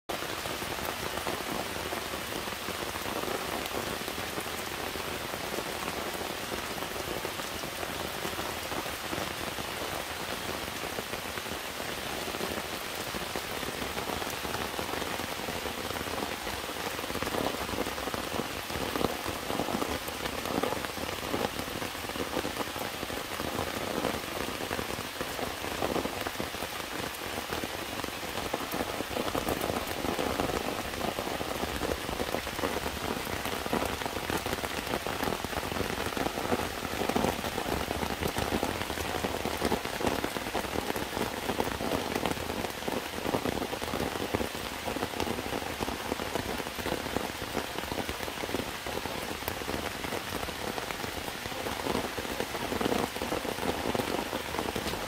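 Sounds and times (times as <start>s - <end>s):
heavy rain hissing: 0.1s - 55.0s.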